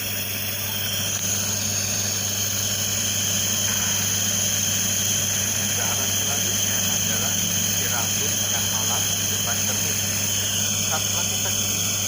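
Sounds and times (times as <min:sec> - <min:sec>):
nebulizer compressor hum: 0:00.0 - 0:12.0.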